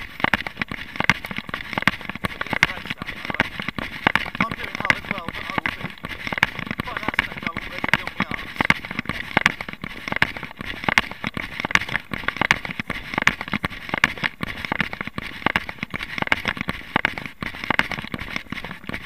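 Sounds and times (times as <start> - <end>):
running footsteps on gravel: 0.0 - 19.0.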